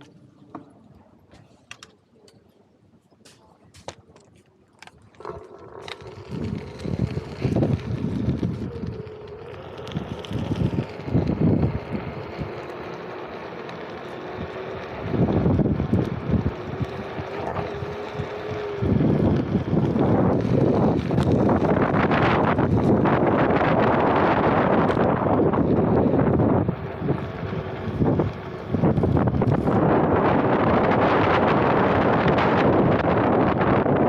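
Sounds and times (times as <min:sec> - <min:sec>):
wind buffeting microphone: 0:04.9 - 0:13.2, 0:14.0 - 0:34.0
electric motor whine: 0:05.2 - 0:34.0.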